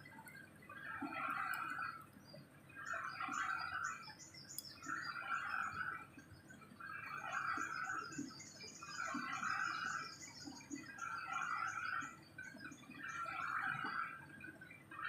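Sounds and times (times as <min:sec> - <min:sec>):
birds chattering: 0:00.8 - 0:14.3.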